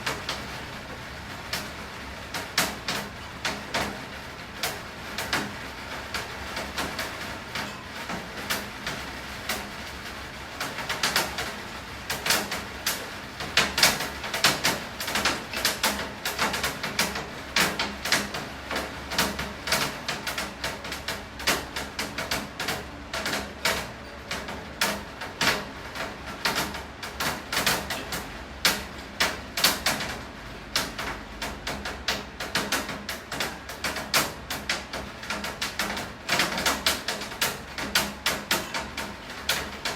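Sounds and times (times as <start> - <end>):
rain drops tapping on hard surface: 0.0 - 39.9.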